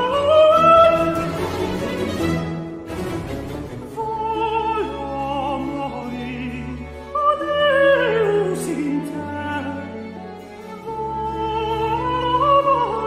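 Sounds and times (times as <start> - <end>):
countertenor singing opera aria: 0.0 - 2.5, 3.7 - 13.0
instrumental accompaniment: 0.0 - 13.0.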